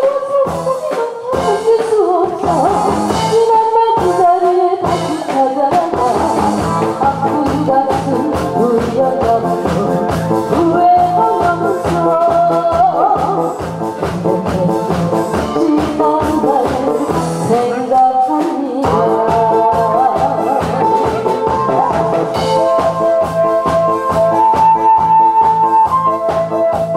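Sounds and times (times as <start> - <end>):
woman singing: 0.0 - 26.0
backing music with beat: 0.0 - 26.9.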